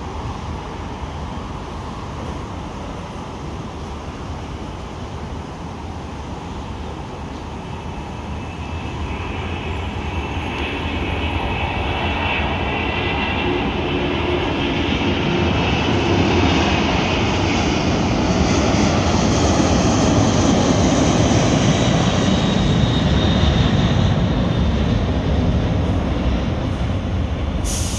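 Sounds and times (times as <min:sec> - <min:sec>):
jet engines at takeoff power: 0:00.0 - 0:27.9.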